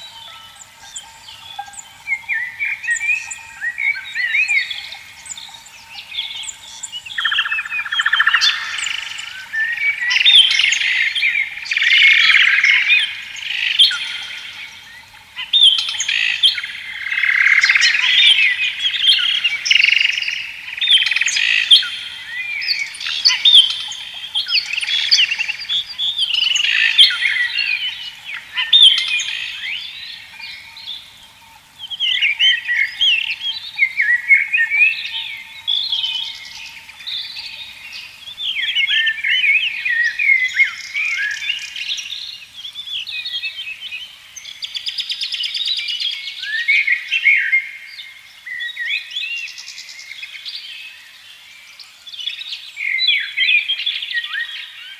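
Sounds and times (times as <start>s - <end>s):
songbirds singing in chorus: 0.0s - 54.9s.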